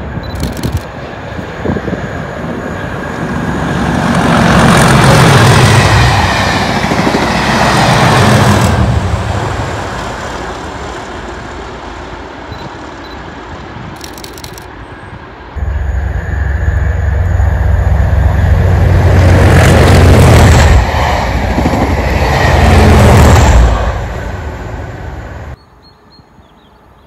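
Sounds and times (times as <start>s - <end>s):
diesel locomotive engine rumble: 0.0s - 25.6s
train wheels on rails: 0.0s - 25.6s.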